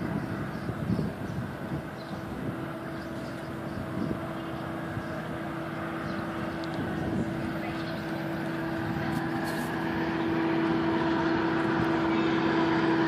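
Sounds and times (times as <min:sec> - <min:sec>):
constant low hum: 0:00.0 - 0:13.0
distant vehicles rumbling: 0:00.0 - 0:13.0.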